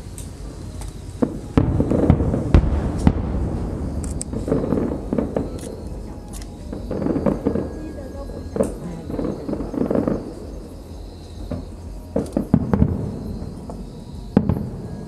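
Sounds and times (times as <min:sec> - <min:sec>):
fireworks booming: 0:00.0 - 0:15.0
fireworks crackling bursts: 0:00.0 - 0:15.0
low rumbling echo: 0:00.0 - 0:15.0.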